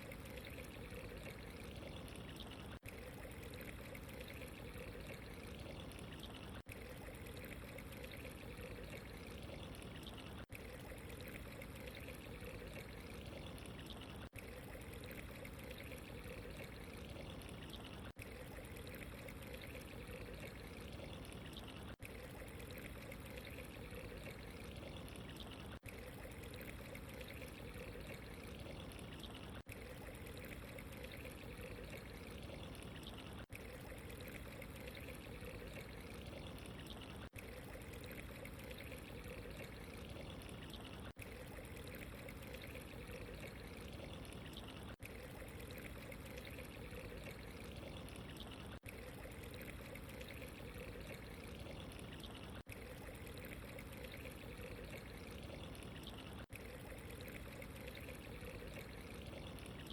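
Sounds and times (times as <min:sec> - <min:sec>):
running water trickling and pouring: 0:00.0 - 0:59.9.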